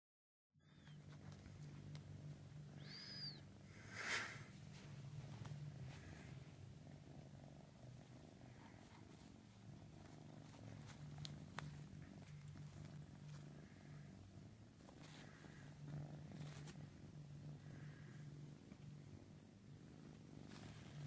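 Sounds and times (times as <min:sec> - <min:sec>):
kitten purring: 0:00.6 - 0:21.0.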